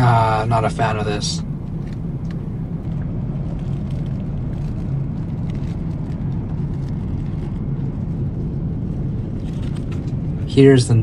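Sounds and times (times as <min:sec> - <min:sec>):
airliner cabin hum: 0:00.0 - 0:11.0.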